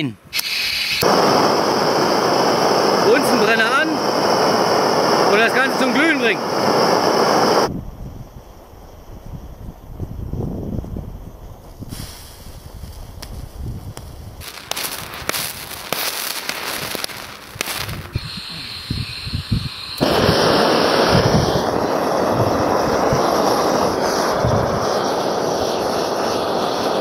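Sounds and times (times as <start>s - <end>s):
blowtorch rushing: 0.3s - 7.7s, 11.9s - 13.5s, 14.3s - 27.0s
sparks crackling and popping: 0.4s - 7.7s, 11.7s - 27.0s.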